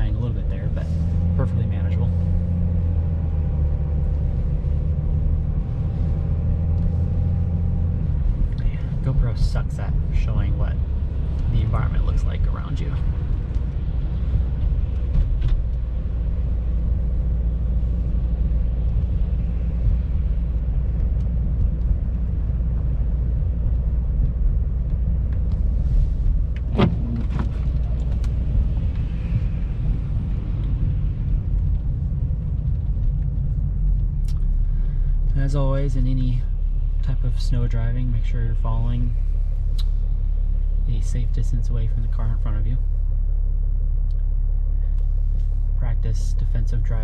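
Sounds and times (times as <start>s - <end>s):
car interior engine and tyre rumble: 0.0s - 47.0s.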